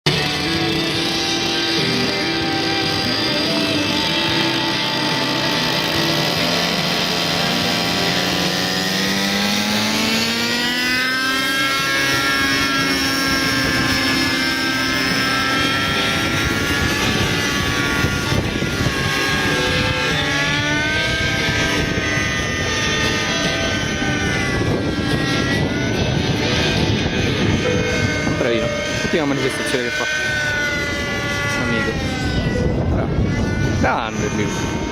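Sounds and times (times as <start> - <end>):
model helicopter engine and rotor: 0.0 - 34.9.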